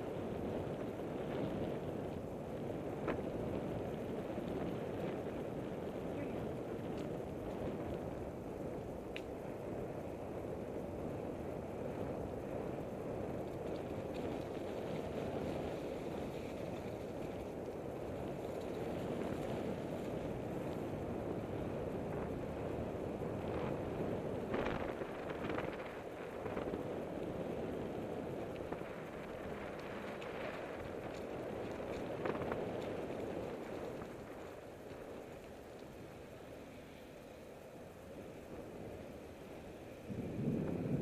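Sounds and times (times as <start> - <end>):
wind buffeting microphone: 0.0 - 36.6, 37.4 - 41.0
bicycle rolling on path: 0.0 - 41.0.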